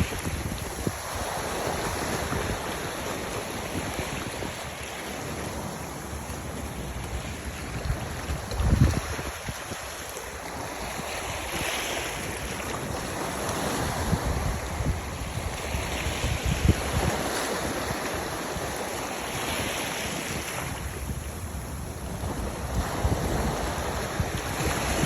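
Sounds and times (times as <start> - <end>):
sea waves washing in: 0.0 - 25.0
wind buffeting microphone: 0.0 - 25.0.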